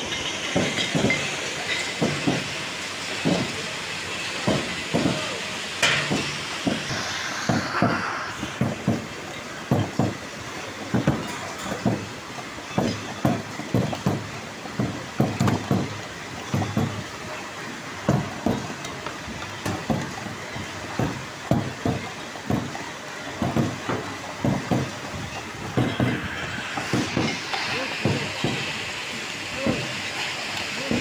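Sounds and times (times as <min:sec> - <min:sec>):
packing machinery running: 0:00.0 - 0:31.0.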